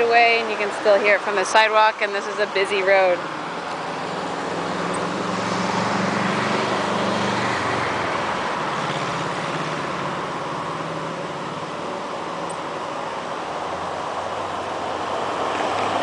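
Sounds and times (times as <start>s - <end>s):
steady traffic rushing noise: 0.0s - 16.0s
vehicle passing: 0.0s - 16.0s.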